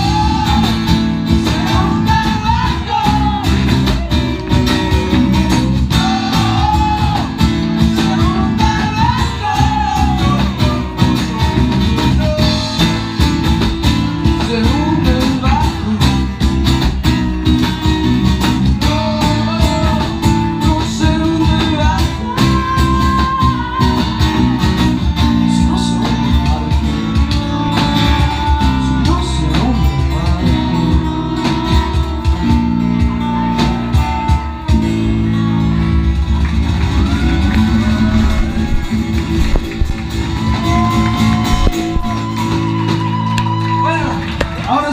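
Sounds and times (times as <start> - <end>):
live latin band playing: 0.0 - 44.9.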